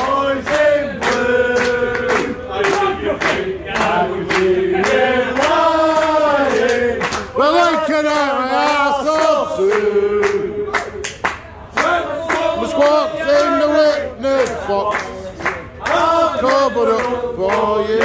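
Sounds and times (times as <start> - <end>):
men singing unaccompanied: 0.0 - 10.9, 11.8 - 14.7, 15.8 - 18.0
hands clapping: 0.0 - 18.0.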